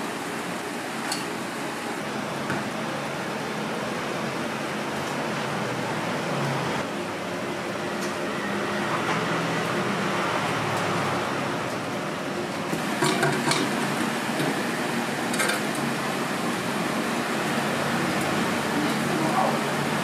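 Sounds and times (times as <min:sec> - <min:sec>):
street food stall background noise: 0:00.0 - 0:20.0.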